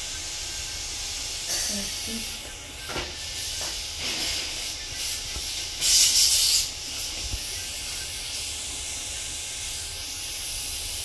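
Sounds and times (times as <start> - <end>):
dental suction hissing: 0.0 - 11.0.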